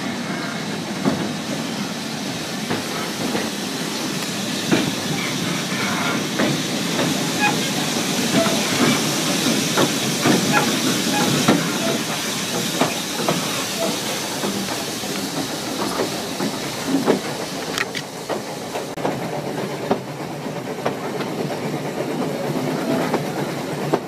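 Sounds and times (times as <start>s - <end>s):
steam train hiss and rumble: 0.0s - 24.0s.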